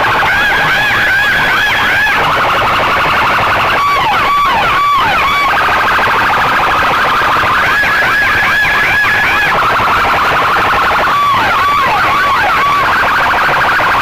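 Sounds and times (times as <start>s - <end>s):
electronic siren cycling tones: 0.0s - 14.0s.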